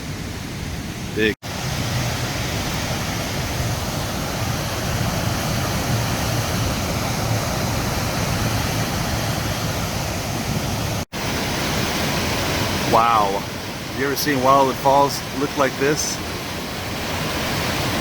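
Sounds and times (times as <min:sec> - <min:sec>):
water pouring over falls: 0:01.5 - 0:18.0.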